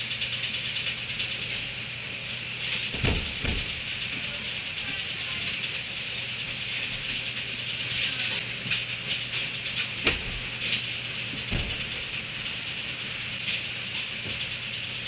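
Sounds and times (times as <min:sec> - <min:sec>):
outdoor hiss: 0:00.9 - 0:15.0.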